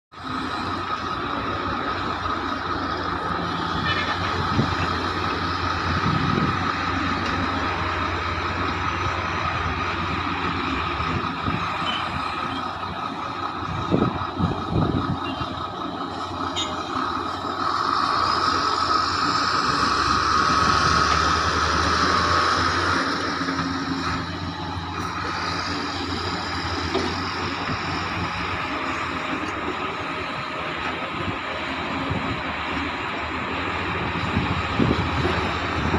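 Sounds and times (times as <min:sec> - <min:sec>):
constant whine: 0:00.1 - 0:35.9
heavy diesel machinery running: 0:00.1 - 0:35.9
loud rumbles: 0:00.2 - 0:35.9.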